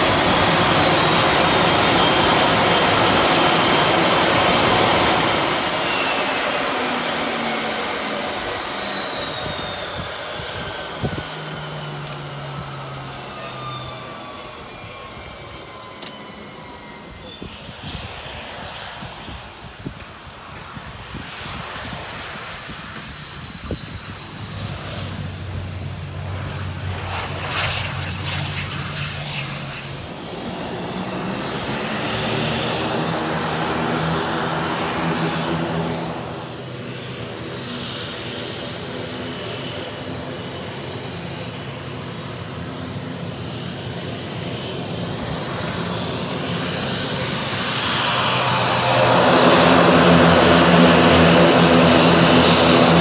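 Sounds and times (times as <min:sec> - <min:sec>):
high turbine whine: 0:00.0 - 0:53.0
propeller drone: 0:00.0 - 0:53.0.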